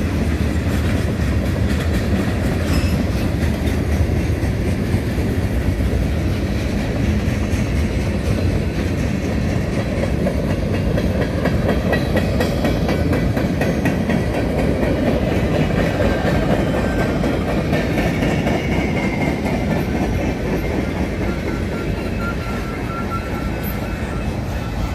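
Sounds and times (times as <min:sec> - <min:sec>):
freight train wheels rumbling: 0:00.0 - 0:24.9
wheels clacking over rail joints: 0:00.0 - 0:24.9.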